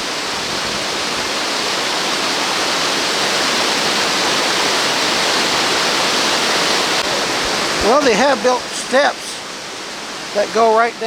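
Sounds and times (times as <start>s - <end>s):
waterfall plunging into pool: 0.0s - 10.9s.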